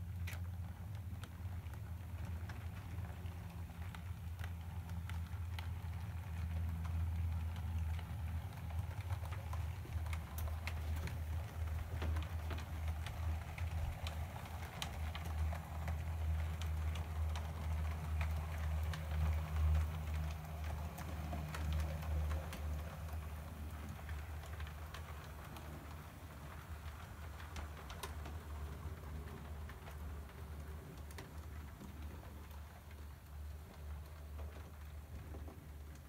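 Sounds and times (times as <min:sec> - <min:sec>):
model train motors humming: 0:00.0 - 0:36.0
wheels clicking over rail joints: 0:00.0 - 0:36.0.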